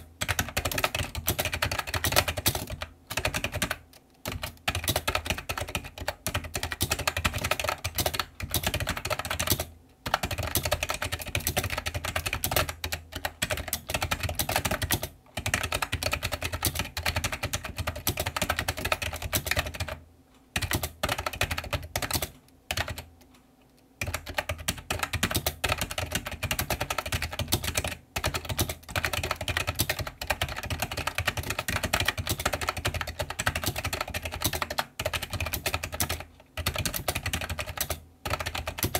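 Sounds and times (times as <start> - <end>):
fast typing on keyboard: 0.0 - 23.1, 24.0 - 38.9.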